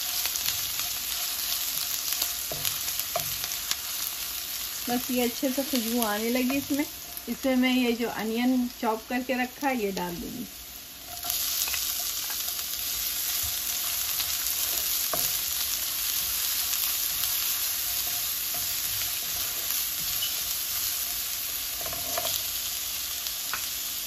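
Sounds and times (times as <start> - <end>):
onion sizzling in oil: 0.0 - 24.0.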